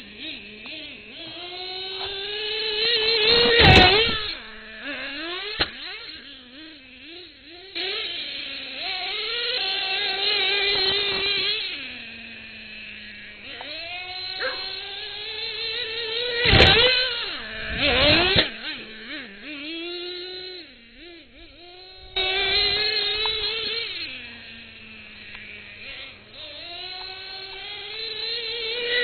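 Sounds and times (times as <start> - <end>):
rc truck nitro engine revving: 0.0 - 29.0.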